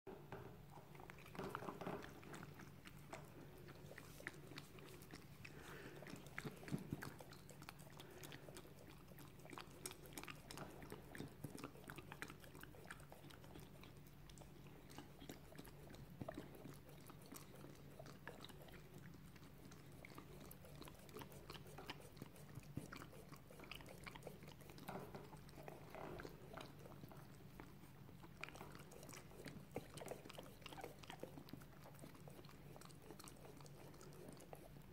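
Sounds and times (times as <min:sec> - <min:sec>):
dog licking and chewing: 0:00.6 - 0:34.9.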